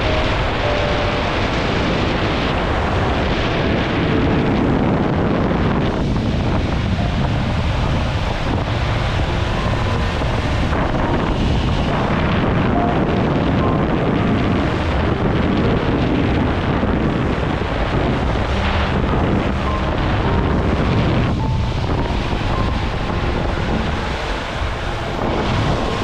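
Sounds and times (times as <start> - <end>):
rushing water: 0.0 - 26.0
wind buffeting microphone: 0.0 - 26.0.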